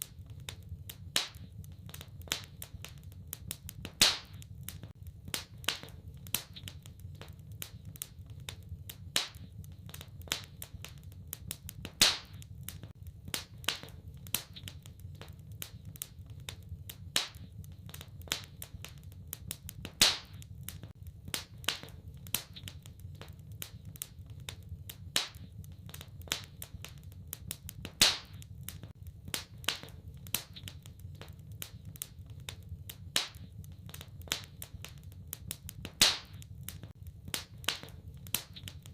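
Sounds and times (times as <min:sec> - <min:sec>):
fire popping: 0:00.0 - 0:38.9
low rumble of flames: 0:00.0 - 0:38.9
wood fire crackling: 0:00.0 - 0:38.9.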